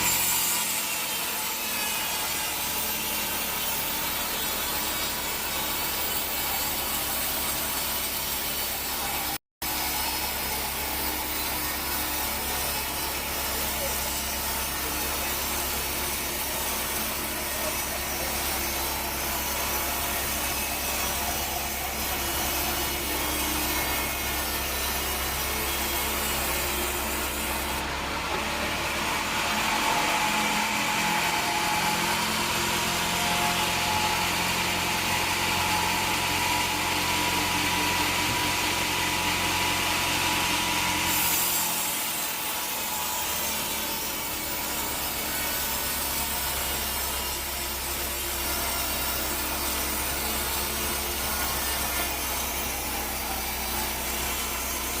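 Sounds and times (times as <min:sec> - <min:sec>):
bandsaw sawmill running: 0:00.0 - 0:55.0
saw blade cutting log whine: 0:00.0 - 0:55.0.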